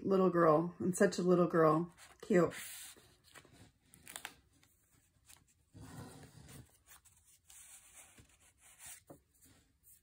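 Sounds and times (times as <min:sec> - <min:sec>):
paper rustling: 0:01.9 - 0:10.0.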